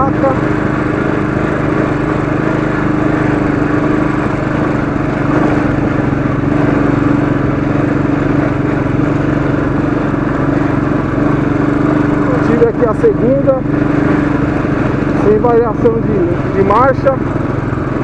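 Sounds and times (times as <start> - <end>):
motorcycle engine pulling under load: 0.0 - 18.0.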